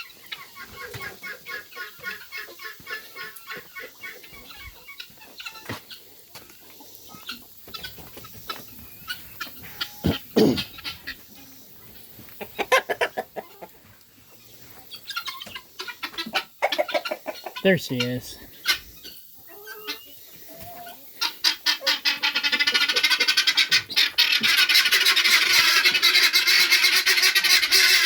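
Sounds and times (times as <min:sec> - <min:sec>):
chicken clucking: 0:00.0 - 0:28.0.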